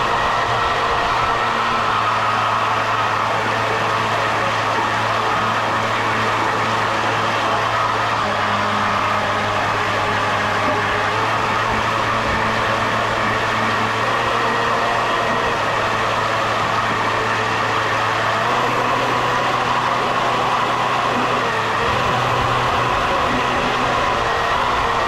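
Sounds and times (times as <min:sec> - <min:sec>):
motor humming steadily: 0:00.0 - 0:25.0.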